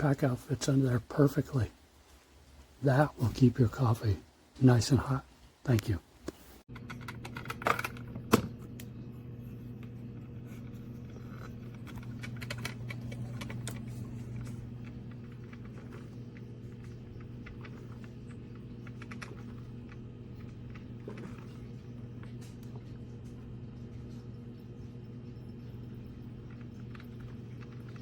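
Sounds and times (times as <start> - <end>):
coffee maker humming: 0.0 - 28.0.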